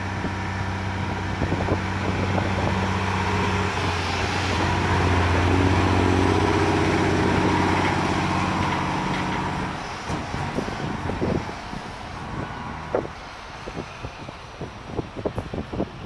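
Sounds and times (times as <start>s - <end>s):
diesel truck engine passing: 0.0s - 15.1s.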